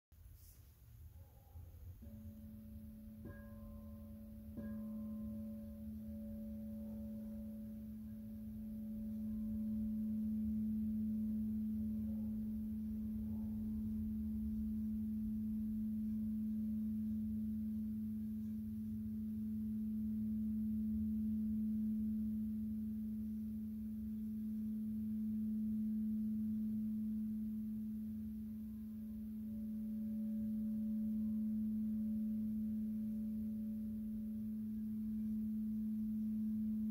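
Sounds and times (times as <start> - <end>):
singing bowl ringing tone: 1.5 - 36.9.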